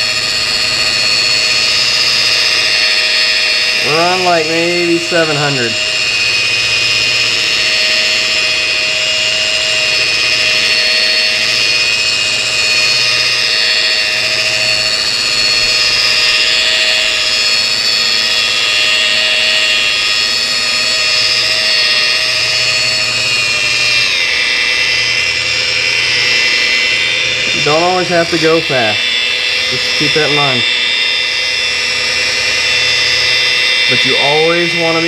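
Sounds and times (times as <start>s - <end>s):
rotary polisher motor whine: 0.0s - 35.0s.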